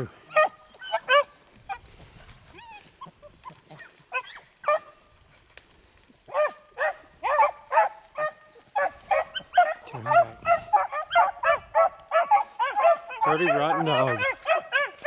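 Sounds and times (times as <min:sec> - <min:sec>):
dogs baying: 0:00.0 - 0:05.3, 0:06.3 - 0:15.0.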